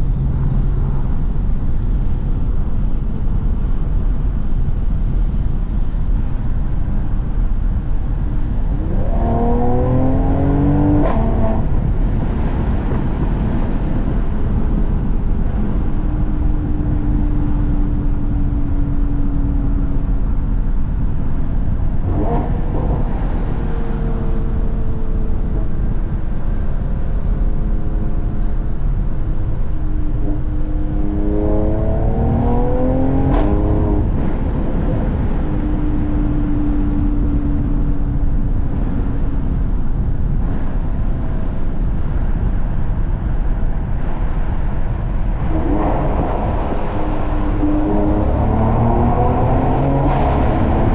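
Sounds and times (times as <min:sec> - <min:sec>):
road noise rumble: 0:00.0 - 0:50.9
car engine revving: 0:04.8 - 0:50.9.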